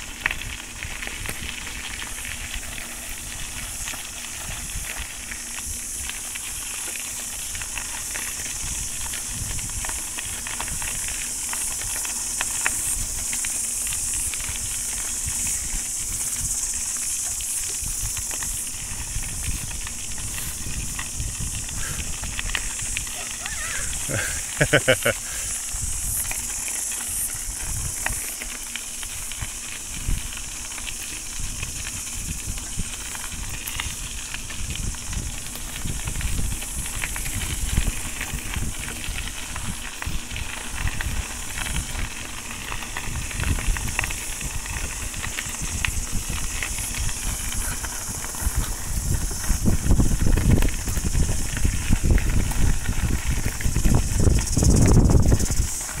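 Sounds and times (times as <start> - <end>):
bicycle tyres crunching gravel: 0.0 - 56.0
steady high hiss: 0.0 - 56.0
wind buffeting microphone: 0.3 - 56.0.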